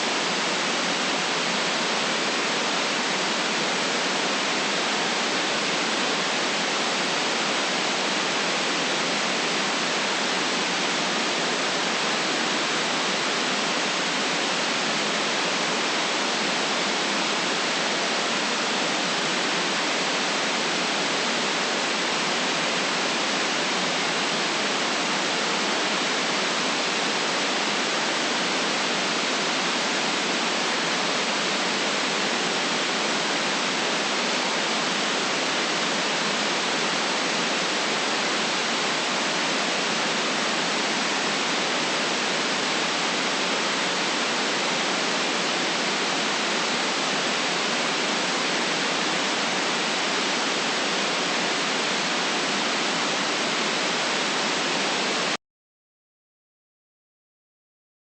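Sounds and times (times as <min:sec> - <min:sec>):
white noise hiss: 0:00.0 - 0:55.4.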